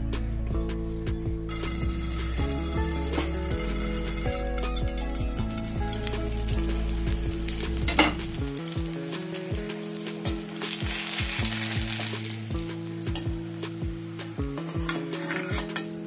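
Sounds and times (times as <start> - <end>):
oil sizzling under pancake: 1.5 - 16.0.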